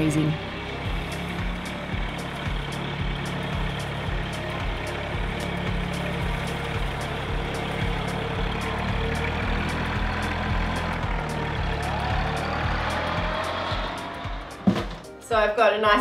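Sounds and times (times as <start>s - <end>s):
tractor diesel engine running: 0.0s - 15.2s.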